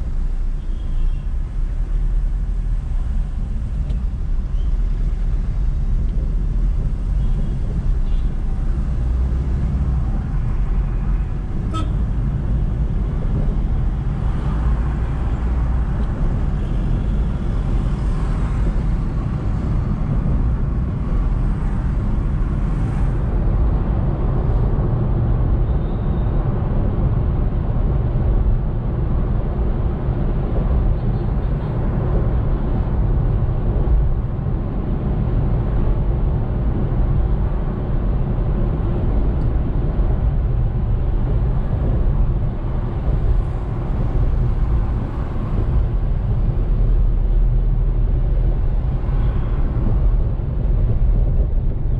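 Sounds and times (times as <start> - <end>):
car driving rumble: 0.0 - 51.9.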